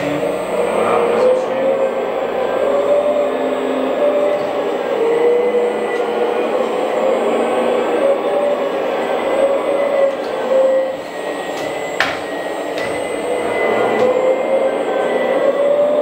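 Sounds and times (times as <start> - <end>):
hydraulic pump whining: 0.0 - 16.0.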